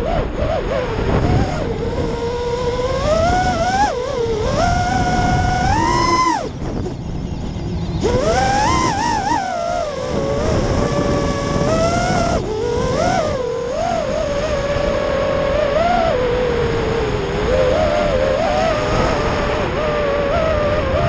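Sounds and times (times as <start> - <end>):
drone motors and propellers whining: 0.0 - 21.0
steady rushing noise: 0.0 - 21.0.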